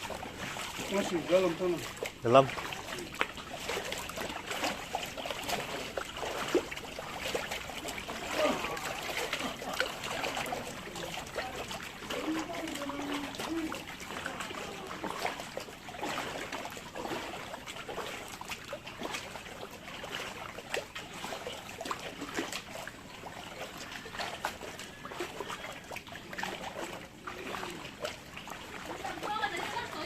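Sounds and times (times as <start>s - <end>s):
floodwater splashing and trickling: 0.0s - 30.0s.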